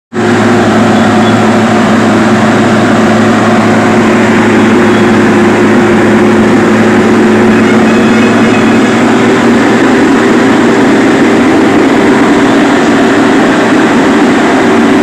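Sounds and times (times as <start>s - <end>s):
heavy machine engine humming: 0.1s - 15.0s.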